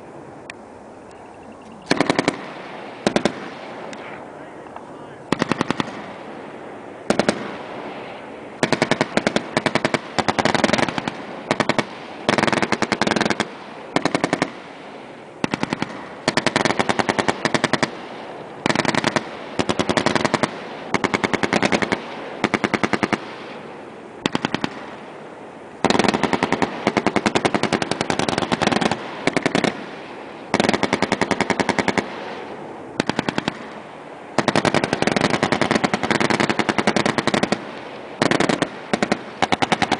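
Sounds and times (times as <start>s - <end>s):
machine gun firing bursts: 1.8s - 3.9s, 5.3s - 6.4s, 7.0s - 25.2s, 25.8s - 39.9s
gunfire echo: 1.8s - 25.2s, 25.8s - 39.9s.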